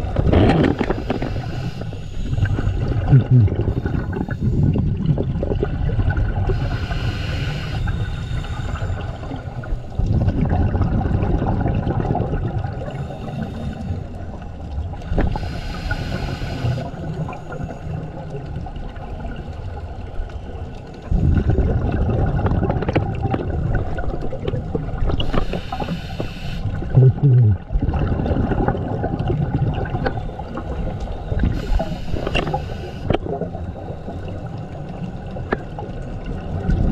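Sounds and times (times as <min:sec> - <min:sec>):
underwater bubbles gurgling: 0:00.0 - 0:36.9.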